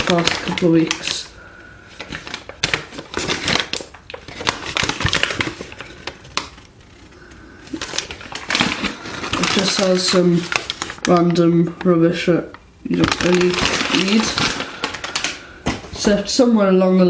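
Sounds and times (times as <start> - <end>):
paper crinkling and rustling: 0.0 - 16.5.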